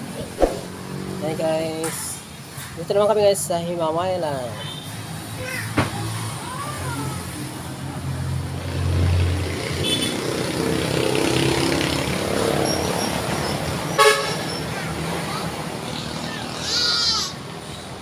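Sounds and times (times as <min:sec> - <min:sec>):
vehicle engines passing: 0:00.0 - 0:18.0.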